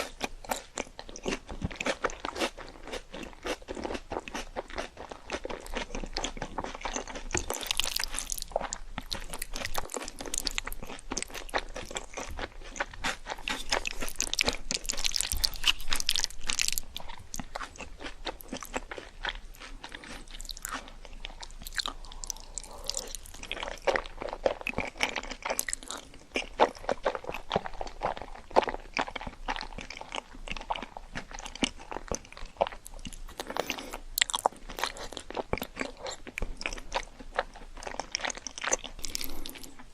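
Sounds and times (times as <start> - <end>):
crunching fried food: 0.0 - 39.9.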